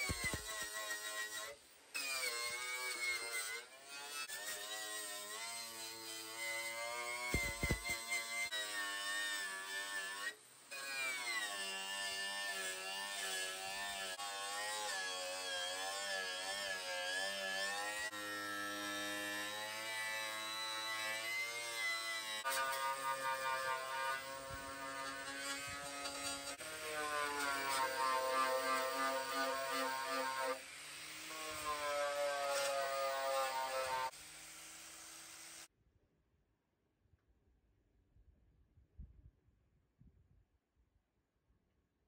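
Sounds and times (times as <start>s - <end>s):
angle grinder on sheet steel: 0.0s - 35.7s.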